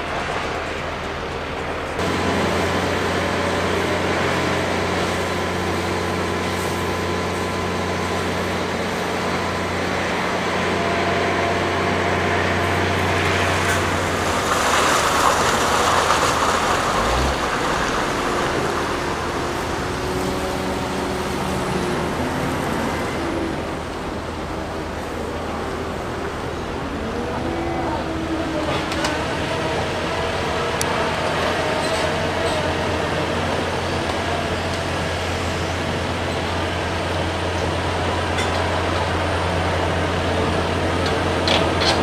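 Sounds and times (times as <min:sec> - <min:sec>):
steady engine hum: 0:00.0 - 0:42.0.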